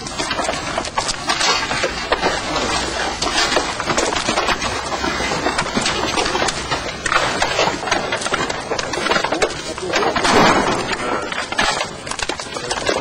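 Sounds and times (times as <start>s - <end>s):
timber and rubble clattering: 0.0s - 13.0s.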